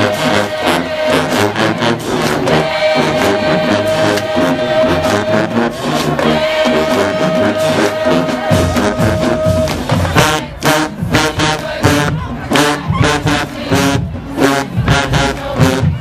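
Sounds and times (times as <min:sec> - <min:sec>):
marching band playing: 0:00.0 - 0:16.0
steady drum beat: 0:00.0 - 0:16.0.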